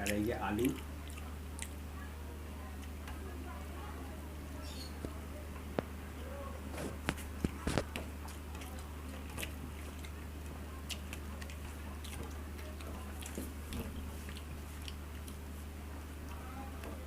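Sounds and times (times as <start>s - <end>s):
chewing and eating: 0.0s - 4.0s, 6.7s - 17.0s
steady low hum: 0.0s - 17.0s.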